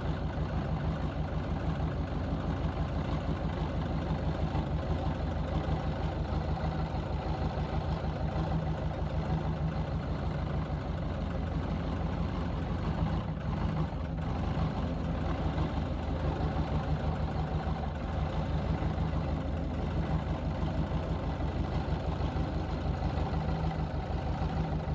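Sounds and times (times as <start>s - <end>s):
diesel engine running steadily: 0.0s - 24.9s.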